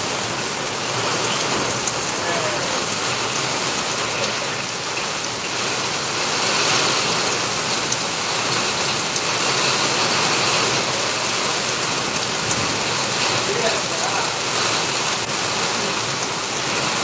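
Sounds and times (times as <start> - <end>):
heavy rain on pavement: 0.0 - 17.0
raindrops ticking: 0.0 - 17.0.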